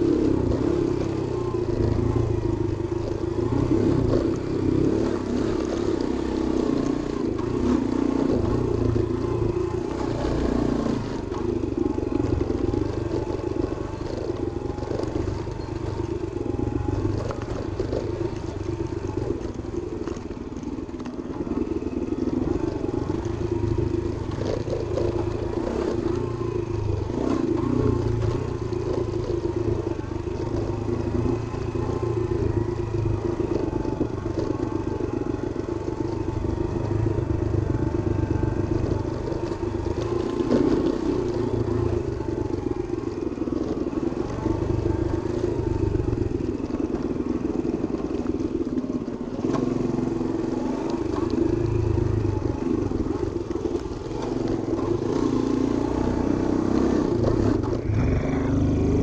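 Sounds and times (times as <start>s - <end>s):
small motorbike engine running: 0.0s - 59.0s.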